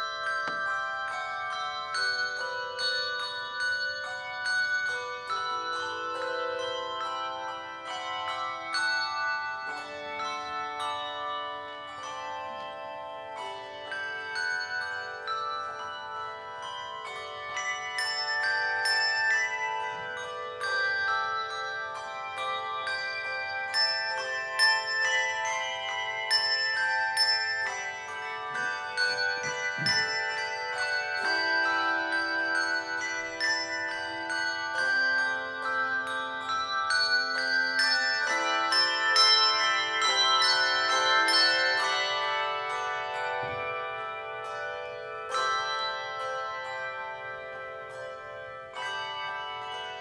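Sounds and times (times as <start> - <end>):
handbell choir playing: 0.0 - 50.0.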